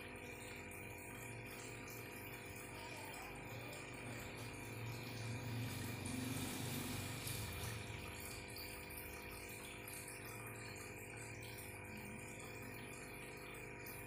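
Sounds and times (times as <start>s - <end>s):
air bubbles in aquarium: 0.0s - 14.0s
filter pump hum: 0.0s - 14.0s.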